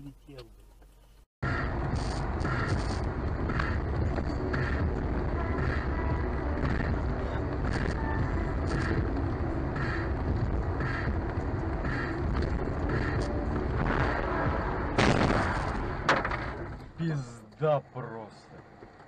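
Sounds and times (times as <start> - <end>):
car interior rumble: 0.0 - 19.0.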